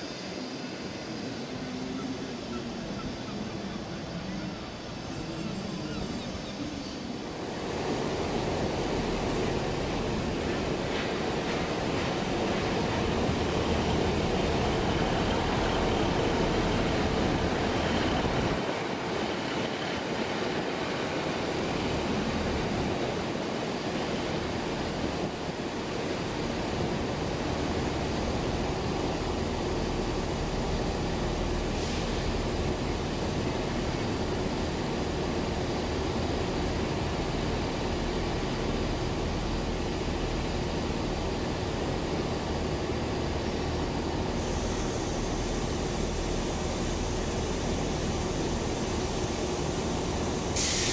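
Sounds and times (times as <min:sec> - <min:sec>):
freight train rumbling on rails: 0:00.0 - 0:50.9.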